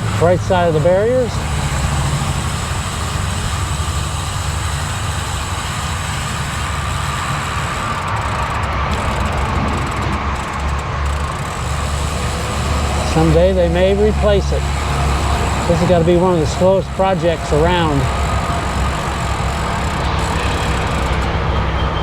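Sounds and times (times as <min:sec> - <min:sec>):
highway traffic: 0:00.0 - 0:22.0.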